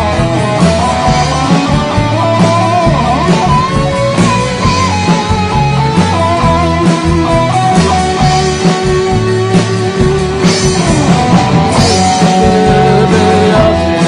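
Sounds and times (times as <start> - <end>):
electric guitar: 0.0 - 14.0
live rock band playing: 0.0 - 14.0.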